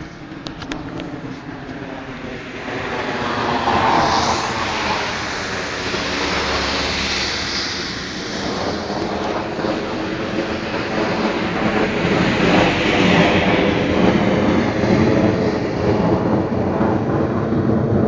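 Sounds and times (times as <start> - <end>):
aircraft roar overhead: 0.0 - 18.0.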